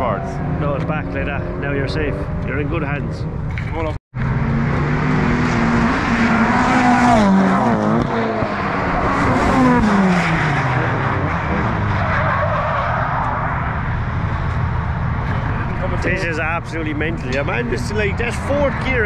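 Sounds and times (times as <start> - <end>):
car engine at high revs: 0.0 - 19.0.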